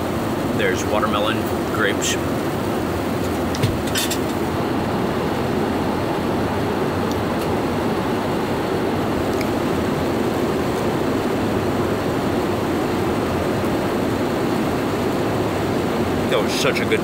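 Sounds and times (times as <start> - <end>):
jet airliner cabin rush: 0.0 - 17.0.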